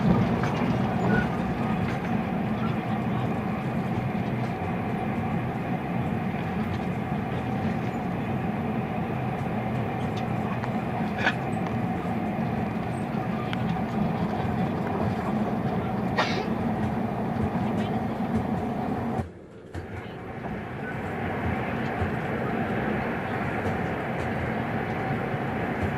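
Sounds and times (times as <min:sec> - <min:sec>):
constant hum: 0:00.0 - 0:25.9
train rumbling: 0:00.0 - 0:25.9.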